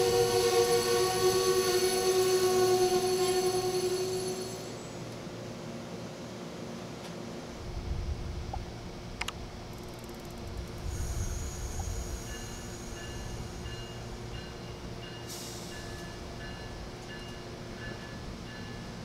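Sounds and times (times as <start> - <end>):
train wheels rumbling on rail: 0.0 - 5.4, 6.8 - 19.0.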